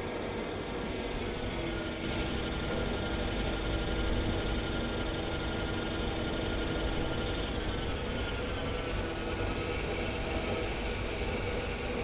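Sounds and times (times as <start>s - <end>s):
lathe machine hum and rush: 0.0s - 12.0s
steady machine tones: 2.0s - 12.0s.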